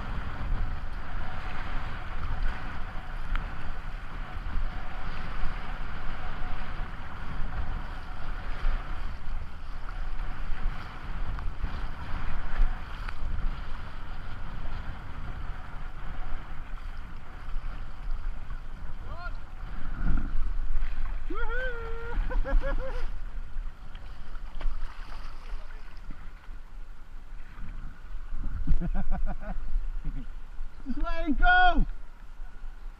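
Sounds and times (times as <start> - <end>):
wind buffeting microphone: 0.0 - 26.7, 27.3 - 32.9.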